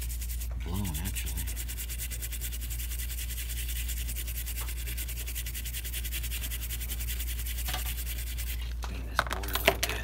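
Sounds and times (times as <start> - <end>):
brush scrubbing circuit board: 0.0 - 8.8.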